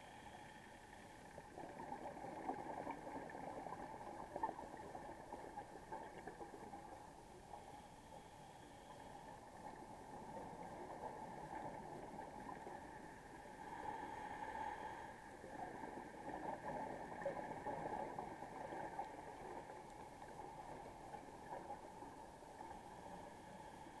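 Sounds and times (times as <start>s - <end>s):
underwater bubbles gurgling: 0.8s - 24.0s.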